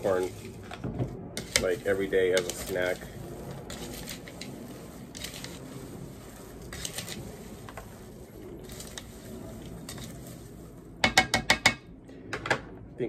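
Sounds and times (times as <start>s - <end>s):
popcorn rustling in a bowl: 0.0s - 11.1s.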